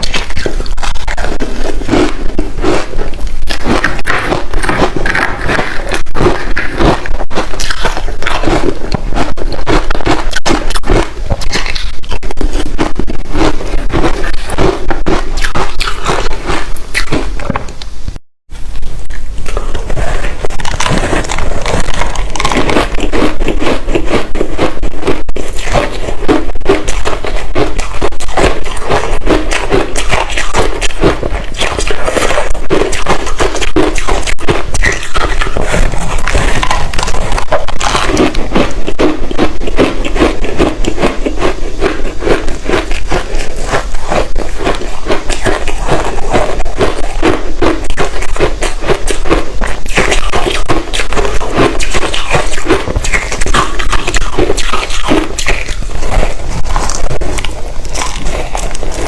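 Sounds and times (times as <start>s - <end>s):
chewing ice crunching: 0.0s - 17.6s, 19.1s - 59.0s.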